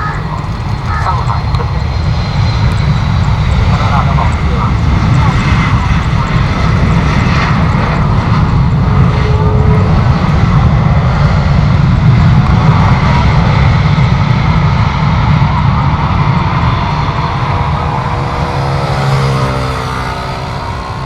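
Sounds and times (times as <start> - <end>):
faint engine whine: 0.0 - 21.0
jet engines rumbling: 0.0 - 21.0.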